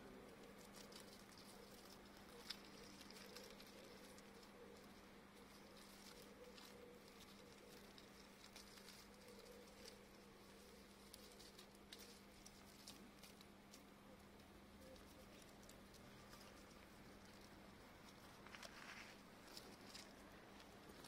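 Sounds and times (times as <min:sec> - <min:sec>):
faint low hum: 0:00.0 - 0:21.0
plant stem rustling dry grass: 0:00.0 - 0:21.0.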